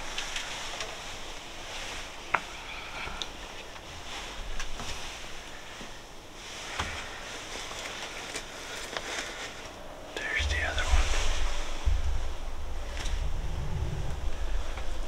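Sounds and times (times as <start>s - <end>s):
steady wind: 0.0s - 15.0s.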